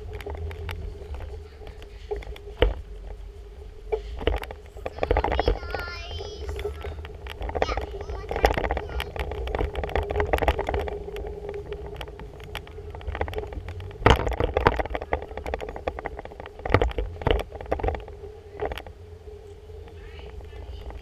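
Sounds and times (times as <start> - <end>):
camera handling rumble and knocks: 0.0 - 3.2, 3.8 - 19.0
steady hum: 0.0 - 21.0.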